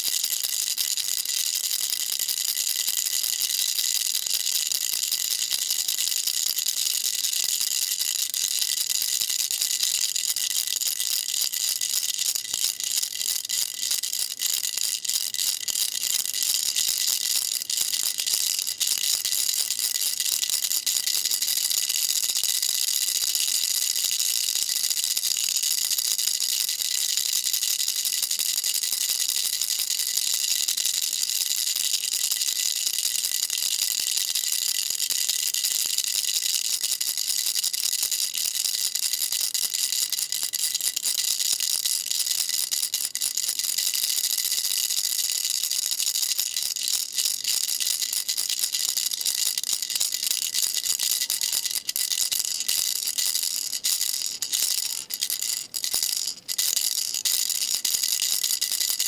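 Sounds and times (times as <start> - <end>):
baby rattle shaking: 0.0 - 59.0.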